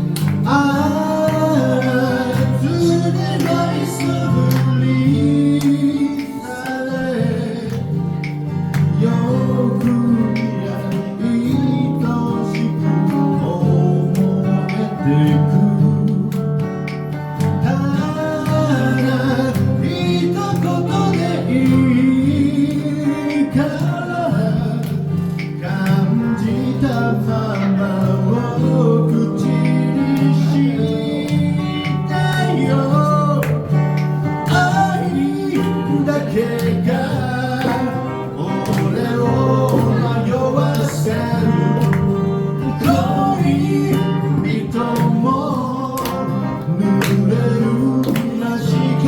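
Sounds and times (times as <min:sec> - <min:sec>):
live band with guitar melody: 0:00.0 - 0:49.0.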